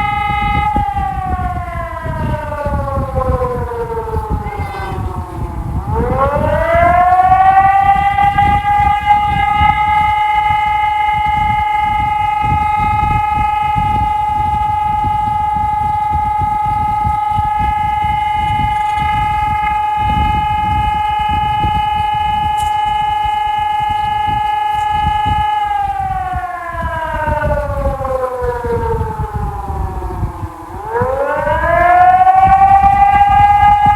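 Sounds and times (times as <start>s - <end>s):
electronic siren tone: 0.0s - 33.9s.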